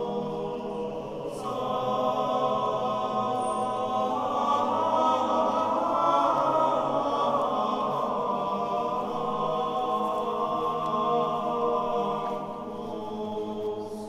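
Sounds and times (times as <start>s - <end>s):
choir chanting sustained notes: 0.0s - 14.0s.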